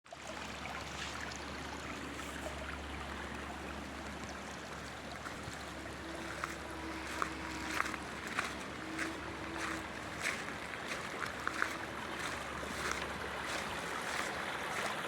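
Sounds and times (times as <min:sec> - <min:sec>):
water flowing: 0:00.1 - 0:15.0
water splashes and drips: 0:00.1 - 0:15.0
low steady hum: 0:00.2 - 0:15.0.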